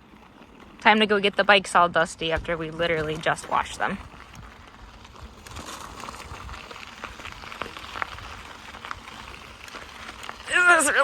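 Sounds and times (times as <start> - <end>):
bike tyres crackling on dirt: 0.0 - 11.0.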